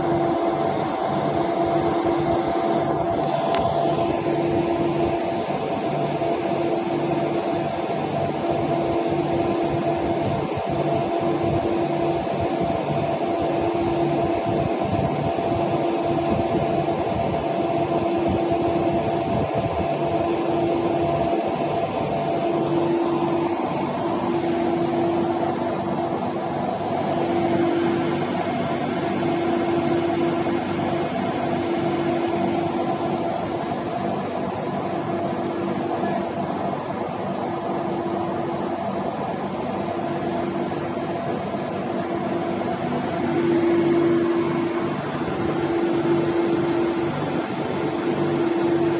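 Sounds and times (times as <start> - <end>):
boat engine drone: 0.0 - 48.9
intermittent hum: 0.0 - 48.9.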